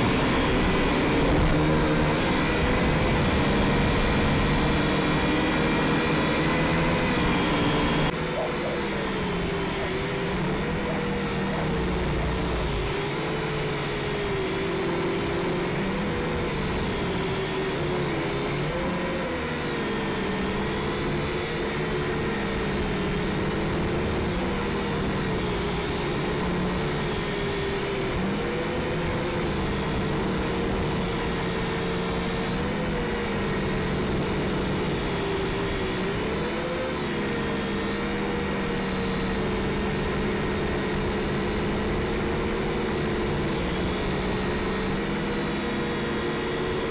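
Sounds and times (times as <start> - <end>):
quadcopter motors whining: 0.0 - 46.9.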